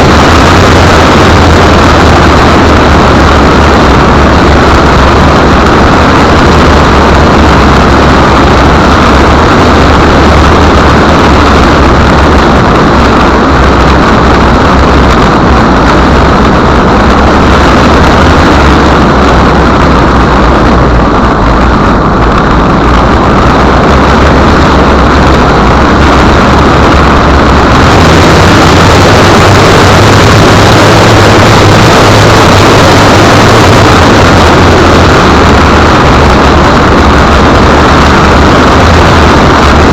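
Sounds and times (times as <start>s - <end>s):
low engine hum: 0.0s - 39.9s
road noise rush: 0.0s - 39.9s.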